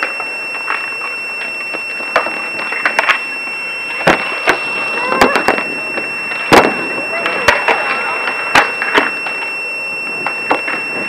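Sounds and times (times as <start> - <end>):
high-pitched electronic whine: 0.0 - 11.0
faint voices: 0.8 - 10.5.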